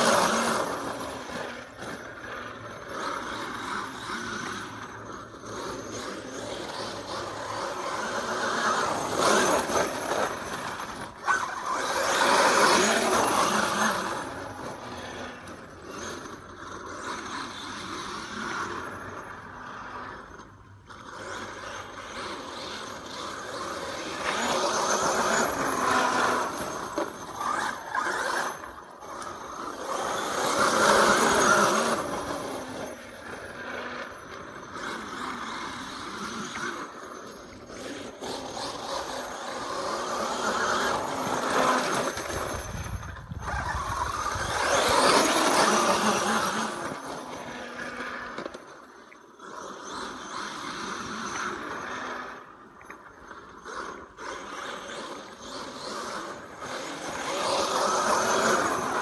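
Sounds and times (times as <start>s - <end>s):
rc truck motor revving: 0.0s - 59.0s.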